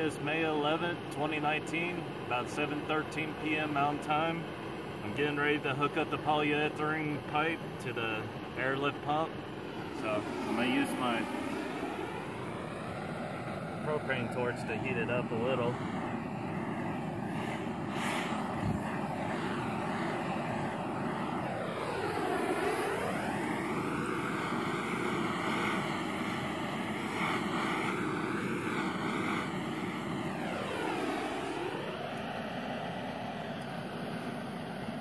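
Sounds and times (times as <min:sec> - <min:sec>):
propane torch hissing: 0:01.7 - 0:35.0.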